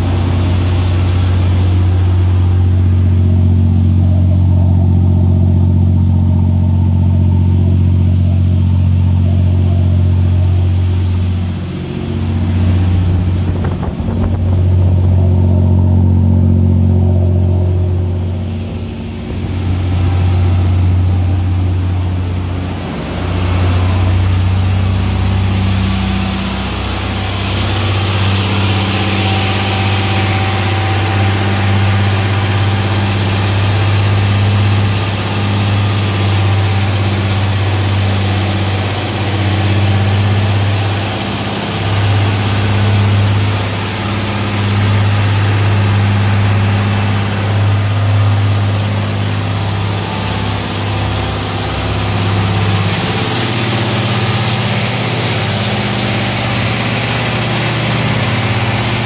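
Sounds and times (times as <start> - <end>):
diesel engines humming: 0.0 - 59.0.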